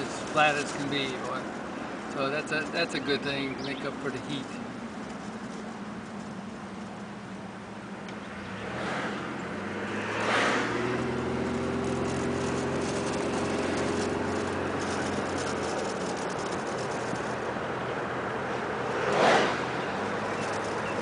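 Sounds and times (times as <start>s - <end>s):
engine hum: 0.0s - 21.0s
road noise: 0.0s - 21.0s.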